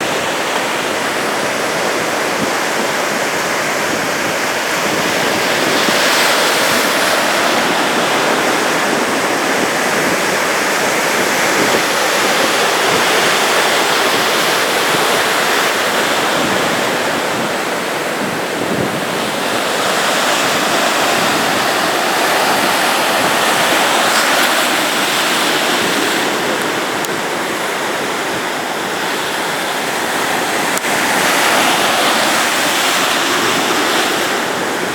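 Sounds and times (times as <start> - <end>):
ocean waves breaking on beach: 0.0 - 34.9.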